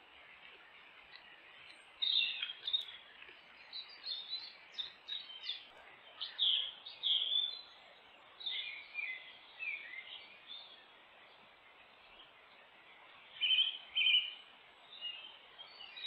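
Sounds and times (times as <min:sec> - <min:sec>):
microphone hiss: 0:00.0 - 0:16.0
songbird singing: 0:00.0 - 0:16.0.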